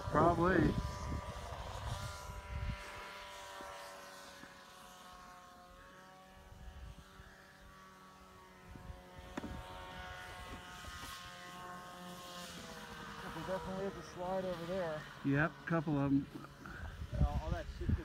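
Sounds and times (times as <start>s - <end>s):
snowmobile engine droning: 0.0s - 18.0s.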